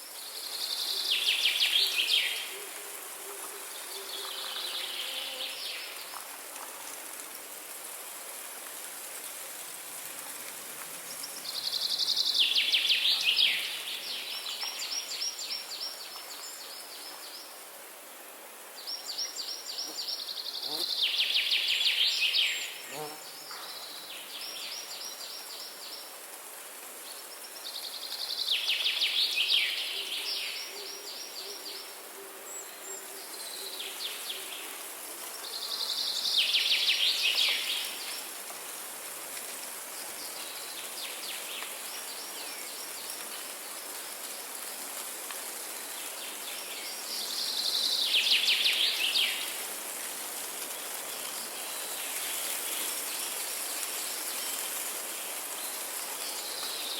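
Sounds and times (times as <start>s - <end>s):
high hiss of insects: 0.0s - 56.9s.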